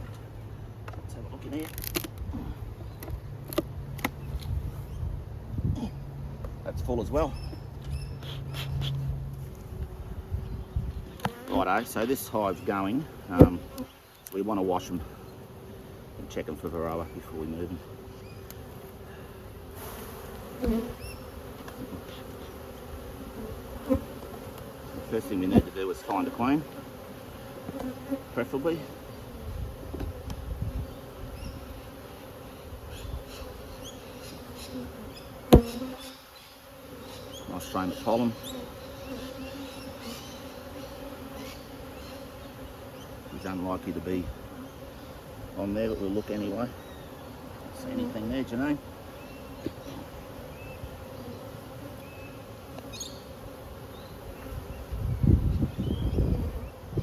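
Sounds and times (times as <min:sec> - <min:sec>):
bees buzzing: 0:07.9 - 0:57.0.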